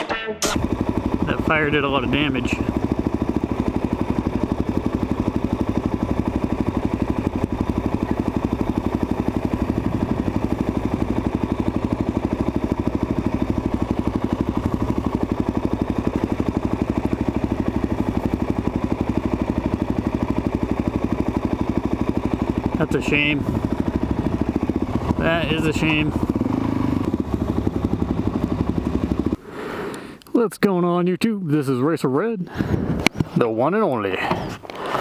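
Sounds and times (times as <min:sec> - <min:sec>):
motorcycle engine running: 0:00.4 - 0:29.5.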